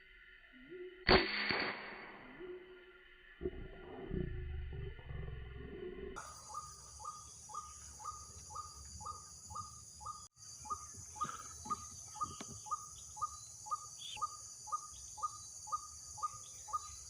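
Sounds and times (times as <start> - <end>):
insects trilling: 2.1 - 17.0.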